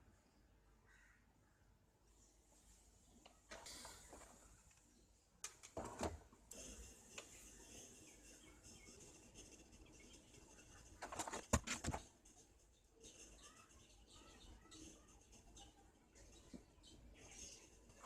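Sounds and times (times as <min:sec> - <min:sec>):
faint clicks and rustles: 0:02.5 - 0:18.0.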